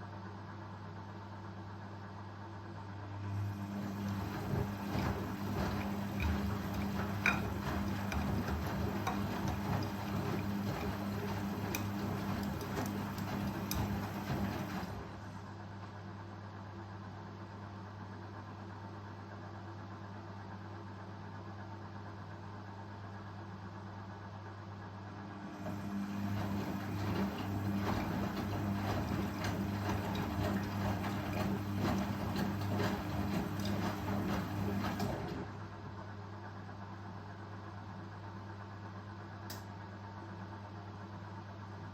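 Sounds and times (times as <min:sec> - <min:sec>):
washing machine spinning: 0:02.7 - 0:18.6, 0:19.2 - 0:41.9.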